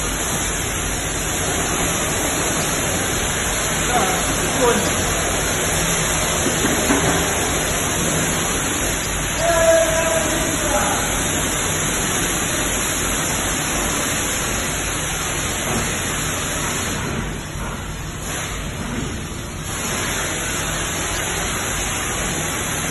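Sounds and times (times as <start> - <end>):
pressure washer jet hissing: 0.0 - 17.4, 19.6 - 22.9.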